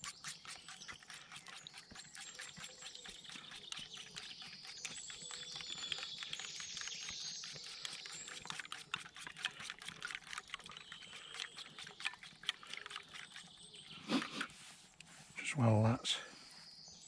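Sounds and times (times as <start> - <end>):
eggs whisked in metal pot: 0.0 - 14.4.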